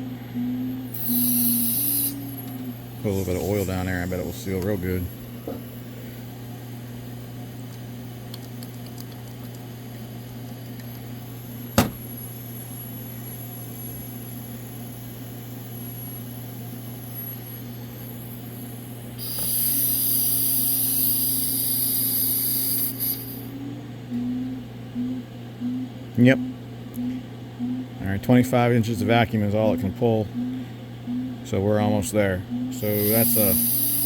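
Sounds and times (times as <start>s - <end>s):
vacuum tester humming: 0.0s - 34.0s.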